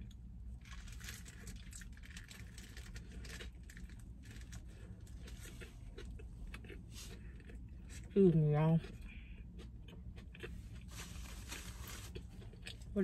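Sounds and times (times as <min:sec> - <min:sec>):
low rumble inside car: 0:00.0 - 0:13.0
crunchy chewing: 0:00.6 - 0:08.1, 0:08.8 - 0:12.9.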